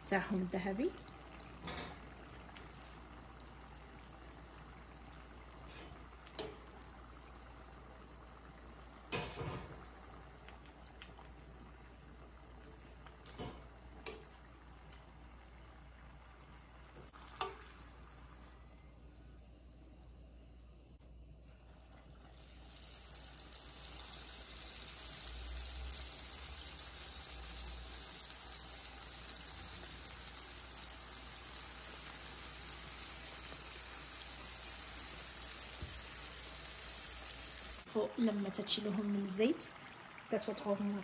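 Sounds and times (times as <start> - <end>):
food sizzling in hot oil: 0.0 - 20.6, 21.7 - 41.0.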